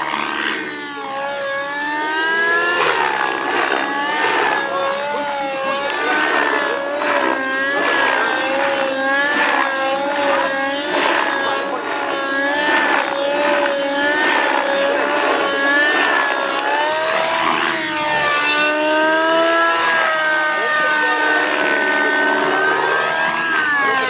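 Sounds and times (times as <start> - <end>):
model helicopter high drone: 0.0 - 24.0.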